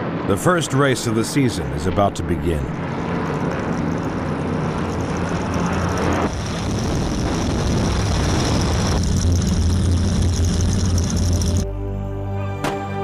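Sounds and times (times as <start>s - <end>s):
powerboat engines droning: 0.0s - 11.7s.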